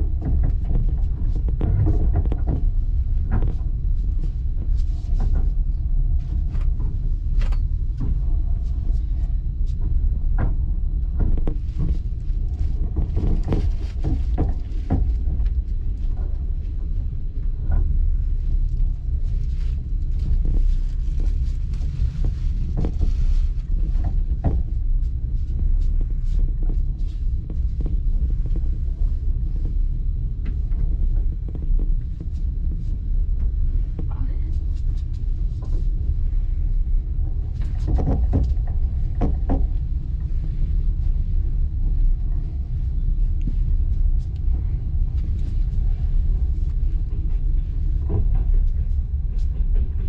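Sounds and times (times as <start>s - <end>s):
train ride low rumble: 0.0s - 50.0s.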